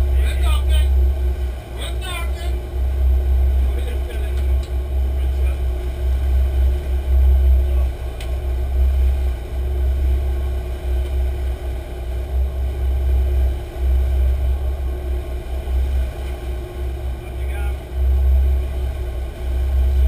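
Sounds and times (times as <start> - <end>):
boat engines droning: 0.0 - 20.0
rush of boat wake: 0.0 - 20.0.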